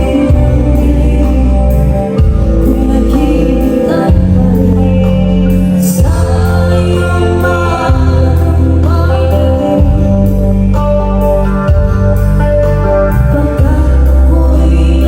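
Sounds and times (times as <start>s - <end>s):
amplified live band music: 0.0s - 15.0s.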